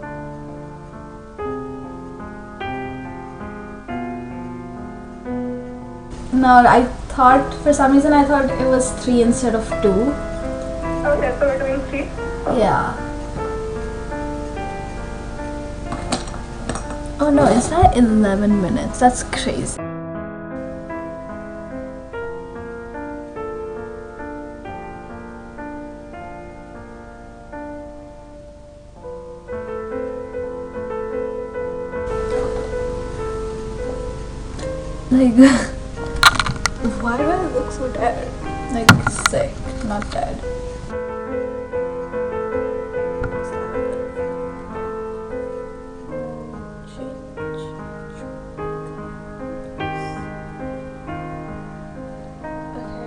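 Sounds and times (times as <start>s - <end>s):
soft piano melody: 0.0s - 53.0s.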